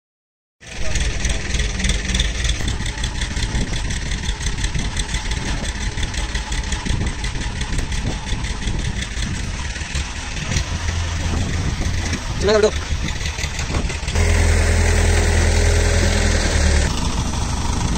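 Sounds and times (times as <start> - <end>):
heavy engine running: 0.6 - 17.9.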